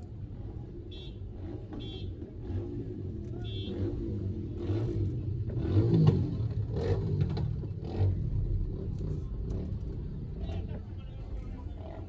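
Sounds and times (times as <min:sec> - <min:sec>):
car engines rumbling: 0:00.0 - 0:12.0
vehicles passing close by: 0:00.0 - 0:12.0.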